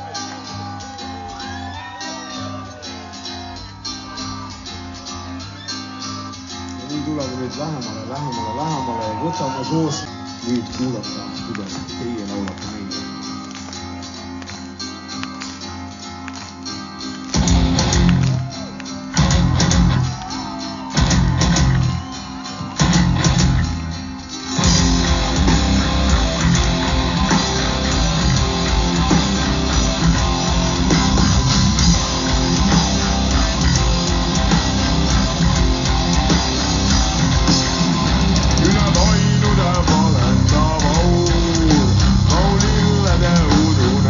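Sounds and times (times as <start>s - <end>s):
metal band playing live: 0.0s - 44.0s.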